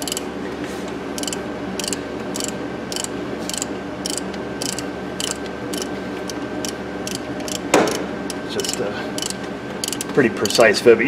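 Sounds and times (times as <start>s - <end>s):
hand ratchet clicking: 0.0s - 0.3s, 1.2s - 10.6s.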